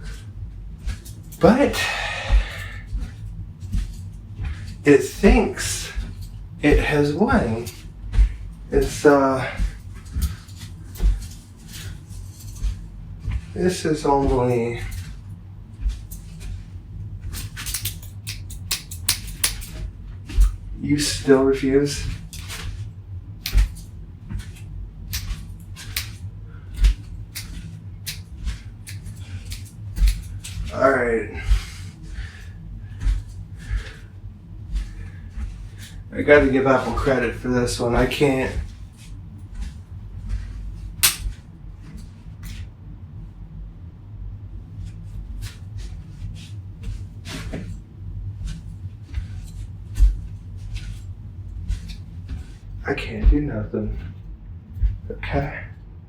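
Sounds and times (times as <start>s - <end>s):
low rumble of handling: 0.0s - 56.0s.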